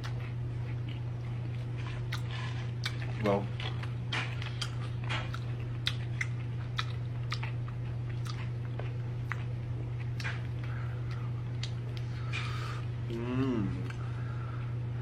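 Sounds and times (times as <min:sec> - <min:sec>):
person chewing and biting food: 0:00.0 - 0:14.1
steady low hum: 0:00.0 - 0:15.0
mouth clicks and crunches: 0:01.8 - 0:14.0.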